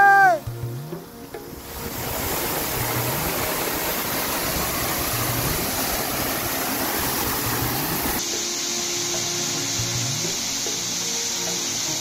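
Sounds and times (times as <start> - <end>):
waterfall rushing and splashing: 1.1 - 12.0.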